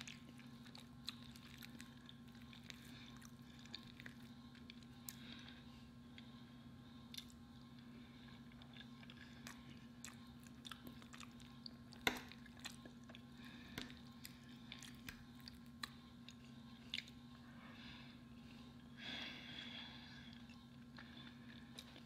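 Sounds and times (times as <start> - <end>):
close chewing of soft food: 0.0 - 22.0
steady low hum: 0.0 - 22.0.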